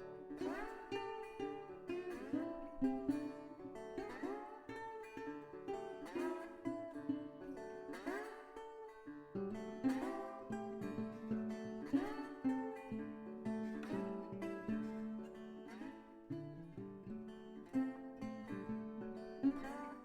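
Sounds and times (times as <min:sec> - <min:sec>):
strummed acoustic guitar chords: 0:00.0 - 0:20.0.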